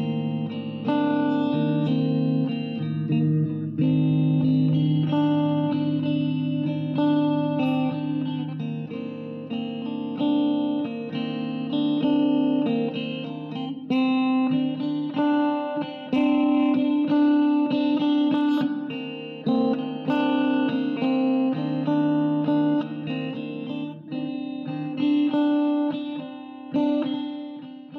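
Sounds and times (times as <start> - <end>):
guitar plucked notes: 0.0 - 27.9.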